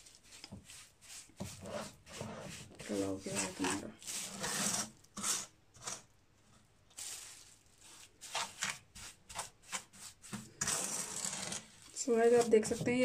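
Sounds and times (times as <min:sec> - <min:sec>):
spatula scraping paste in pan: 0:00.0 - 0:06.1, 0:07.0 - 0:13.0.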